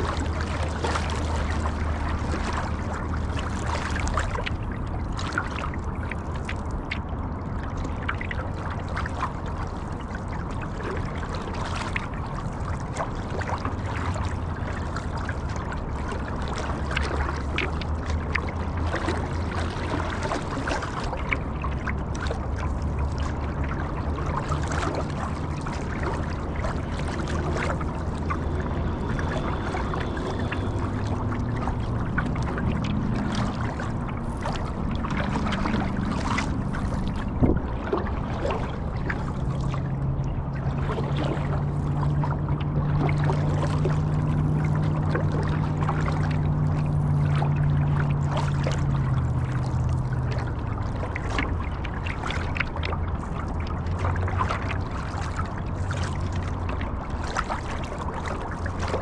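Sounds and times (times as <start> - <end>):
steady low hum: 0.0 - 59.0
water trickling and splashing: 0.0 - 59.0.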